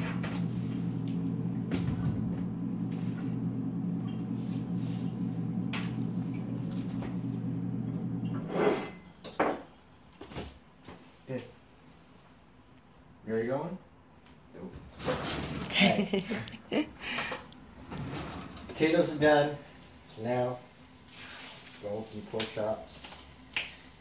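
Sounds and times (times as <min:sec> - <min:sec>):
low electric hum: 0:00.0 - 0:24.0.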